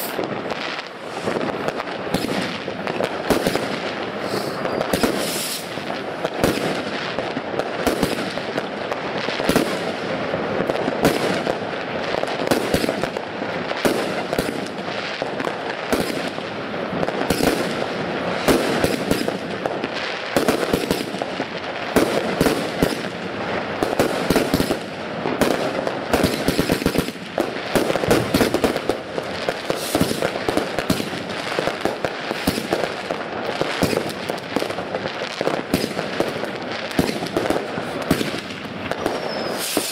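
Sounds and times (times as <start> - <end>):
fireworks firing and crackling: 0.0 - 39.9.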